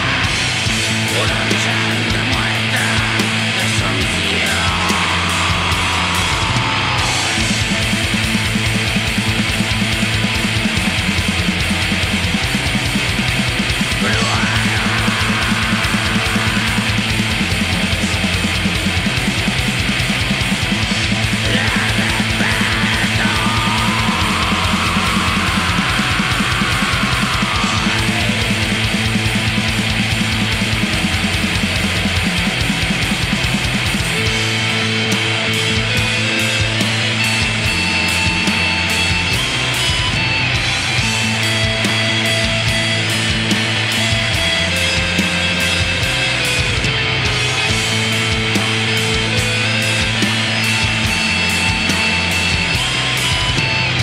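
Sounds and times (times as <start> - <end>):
fast dense drumming: 0.0 - 54.0
heavily distorted guitars: 0.0 - 54.0.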